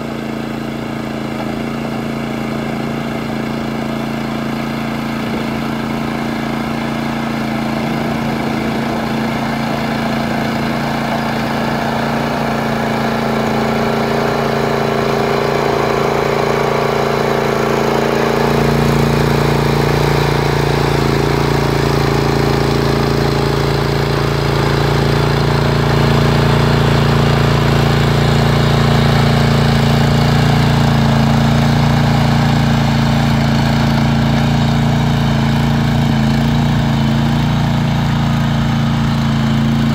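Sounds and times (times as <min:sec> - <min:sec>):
petrol engine running steadily: 0:00.0 - 0:39.9.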